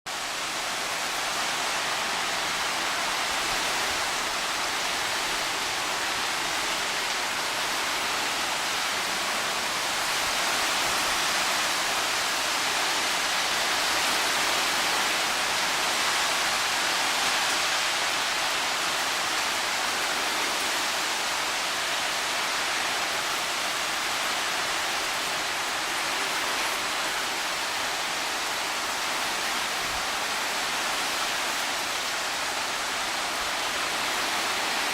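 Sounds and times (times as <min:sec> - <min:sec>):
heavy rain: 0:00.1 - 0:34.9
hurricane wind: 0:00.1 - 0:34.9.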